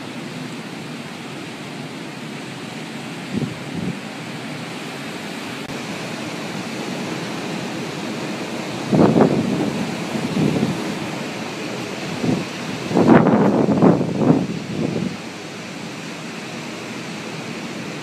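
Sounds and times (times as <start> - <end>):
wind and surf rushing: 0.0 - 18.0
wind gusts buffeting microphone: 3.1 - 18.0.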